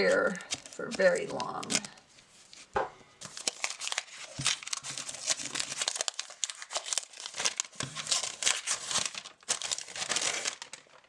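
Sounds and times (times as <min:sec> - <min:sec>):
packaging tearing: 0:00.0 - 0:02.0, 0:03.2 - 0:11.0
packaging crinkling: 0:00.0 - 0:11.0.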